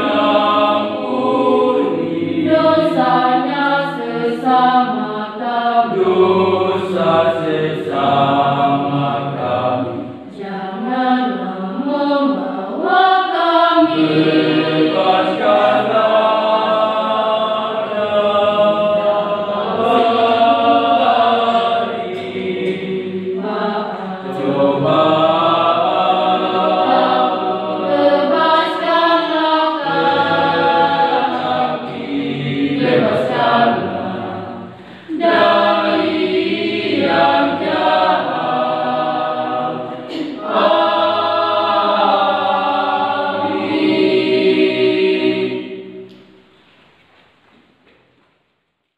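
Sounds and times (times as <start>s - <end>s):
choir singing a hymn: 0.0s - 46.3s.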